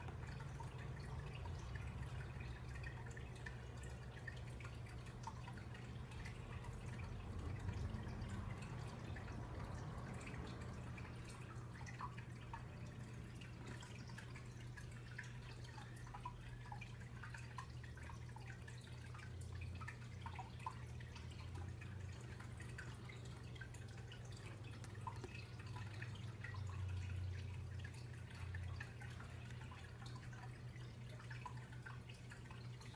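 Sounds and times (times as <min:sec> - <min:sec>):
faint low hum: 0:00.0 - 0:32.9.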